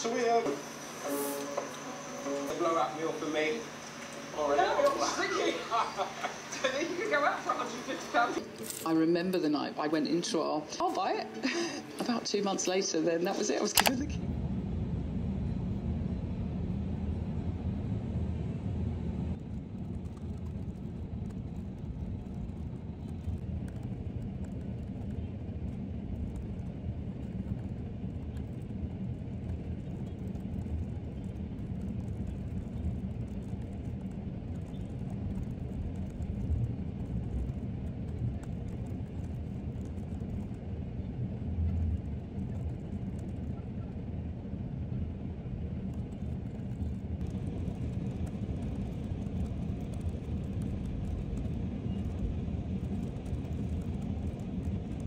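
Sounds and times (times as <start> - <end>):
distant city traffic rumble: 0.0 - 55.0.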